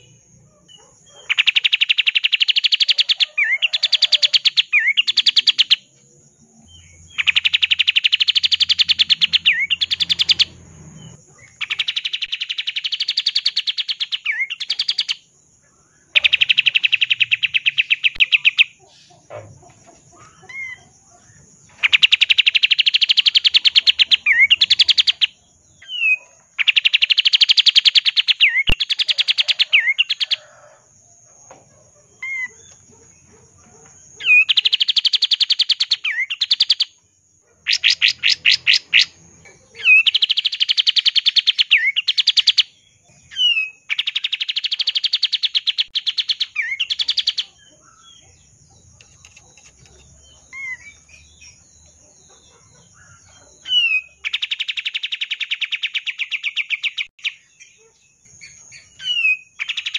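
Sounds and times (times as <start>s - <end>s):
bulbul singing rapid repeated notes: 0.0s - 6.0s, 6.7s - 19.3s, 20.2s - 30.4s, 34.0s - 59.9s.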